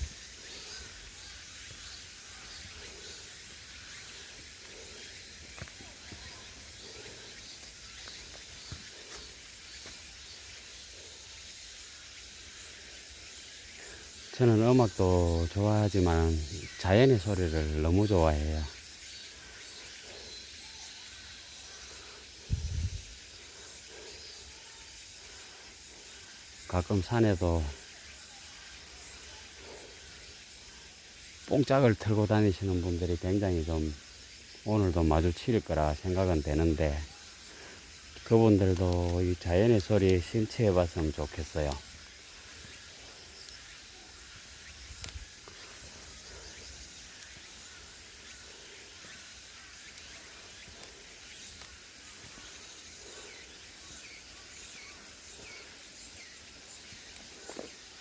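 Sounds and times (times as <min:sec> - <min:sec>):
outdoor ambient hiss: 0:00.0 - 0:58.0.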